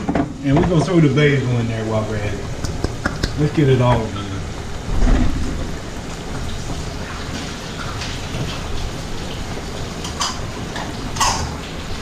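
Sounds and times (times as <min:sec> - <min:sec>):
food sizzling in oil: 0:01.0 - 0:12.0.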